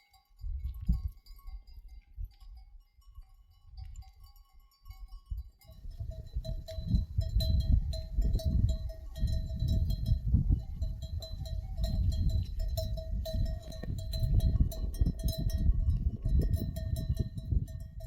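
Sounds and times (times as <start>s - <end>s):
sheep bells clinking: 0.0s - 18.0s.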